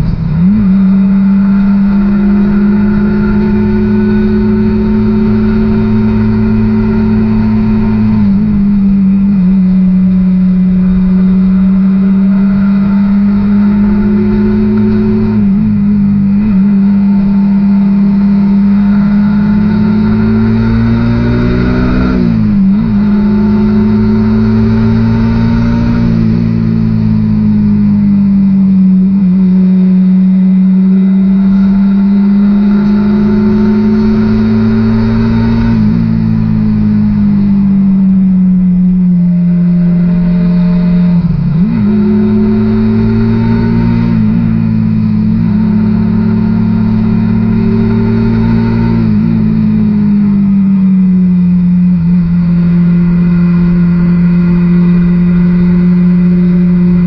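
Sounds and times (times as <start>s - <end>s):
low rumble: 0.0s - 20.9s, 21.5s - 57.0s
motorcycle engine cruising: 0.0s - 57.0s.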